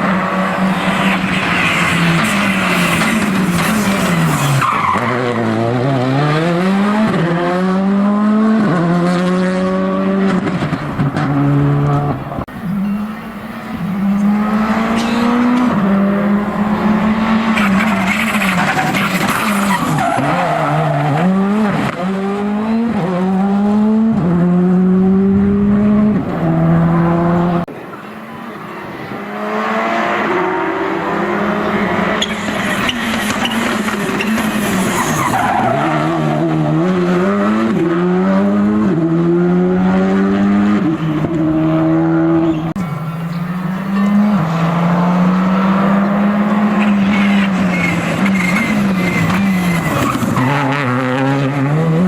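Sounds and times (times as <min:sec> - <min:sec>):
rally car engines revving: 0:00.0 - 0:52.0.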